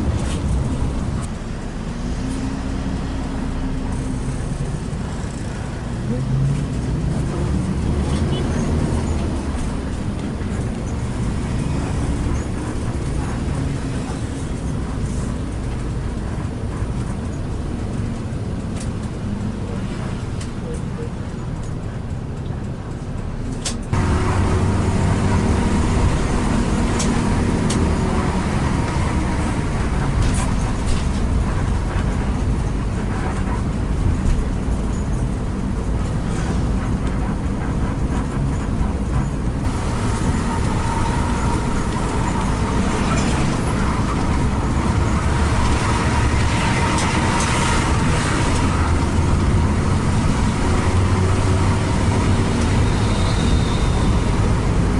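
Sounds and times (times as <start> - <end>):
bus engine and road noise: 0.0 - 54.9.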